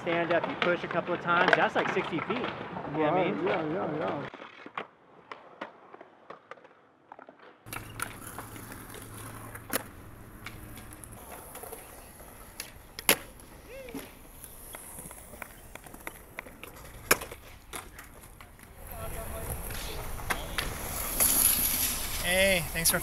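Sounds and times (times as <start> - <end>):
skateboard clacking on ground: 0.0 - 23.0
skateboard rolling on concrete: 0.0 - 23.0.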